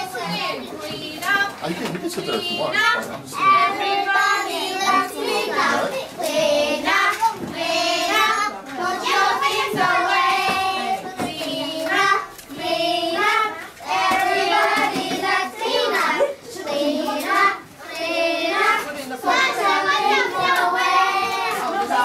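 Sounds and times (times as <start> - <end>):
children singing: 0.0 - 22.0.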